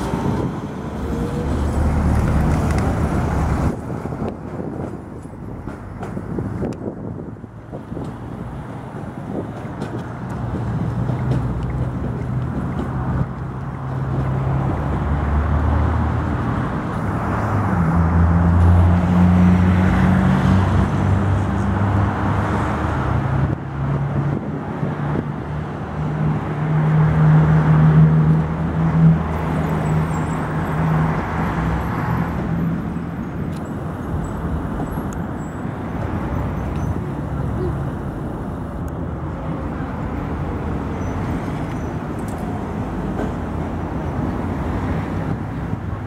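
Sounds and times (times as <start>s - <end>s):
road traffic passing: 0.0s - 46.0s
tram electric hum: 0.0s - 46.0s
trams running on tracks: 0.0s - 46.0s.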